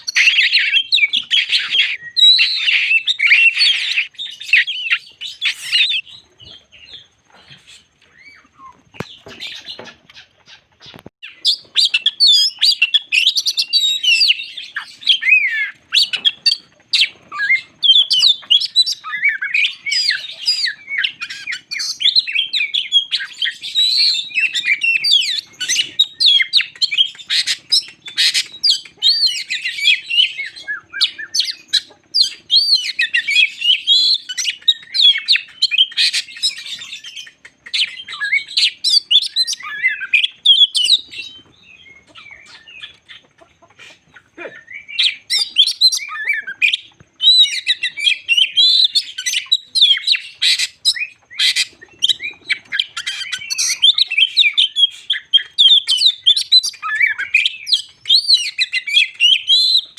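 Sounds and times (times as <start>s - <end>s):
bird singing whistles and chirps: 0.0s - 9.9s, 10.8s - 43.2s, 43.9s - 59.9s.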